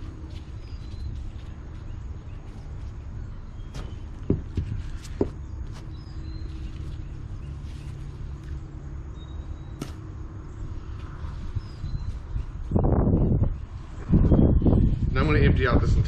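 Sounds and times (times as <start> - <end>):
low hum and rumble: 0.0 - 16.0.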